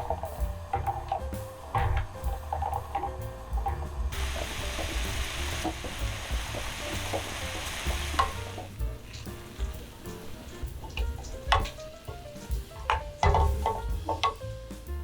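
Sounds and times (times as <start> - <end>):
cooking sizzling: 0.0 - 14.8.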